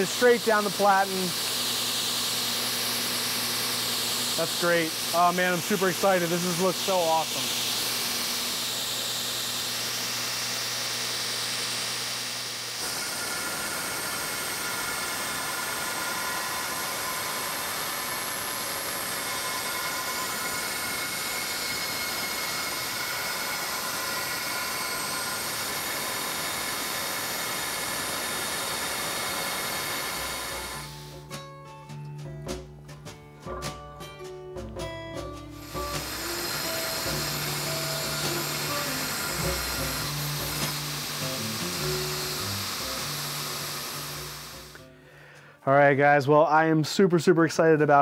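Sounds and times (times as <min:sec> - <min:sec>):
belt grinder motor humming: 0:00.0 - 0:31.2, 0:35.6 - 0:44.8
steel grinding with high whine: 0:00.0 - 0:31.2, 0:35.6 - 0:44.8.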